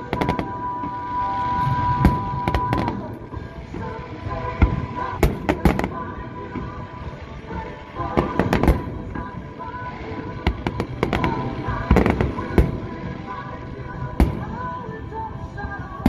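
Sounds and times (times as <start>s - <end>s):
background music: 0.0s - 16.0s
fireworks bursting: 0.0s - 16.0s.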